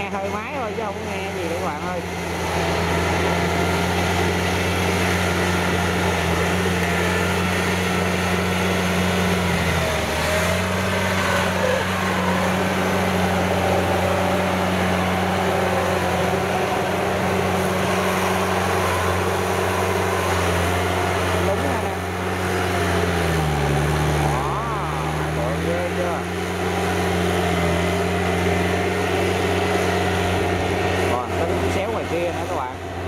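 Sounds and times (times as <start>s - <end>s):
rotor churning through water: 0.0s - 33.0s
tiller engine running under load: 0.0s - 33.0s.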